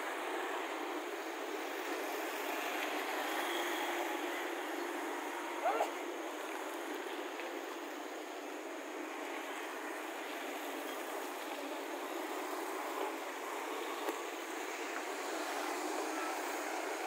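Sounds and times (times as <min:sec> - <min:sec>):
scooters and cars passing: 0:00.2 - 0:07.6, 0:09.0 - 0:17.0.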